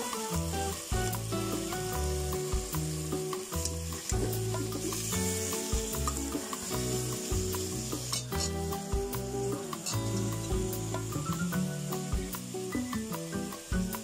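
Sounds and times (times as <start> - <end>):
background music with bass: 0.0 - 14.0
chicken sizzling in butter: 0.0 - 14.0.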